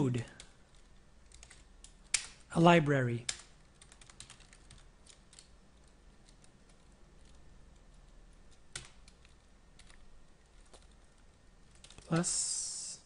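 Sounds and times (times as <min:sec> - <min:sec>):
faint room hiss: 0:00.0 - 0:13.0
computer keyboard keystrokes: 0:00.2 - 0:02.5, 0:03.2 - 0:12.3.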